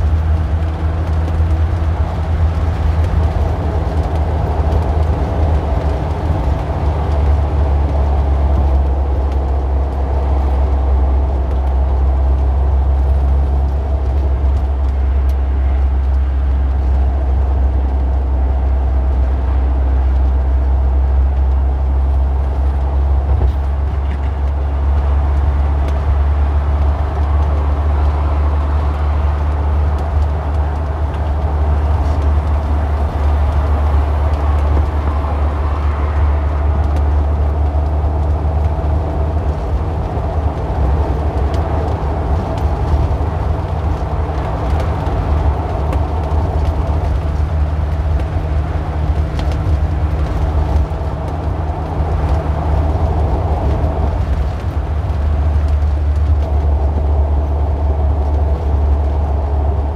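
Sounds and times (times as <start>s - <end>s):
car engine humming: 0.0s - 59.9s
road noise: 0.0s - 59.9s.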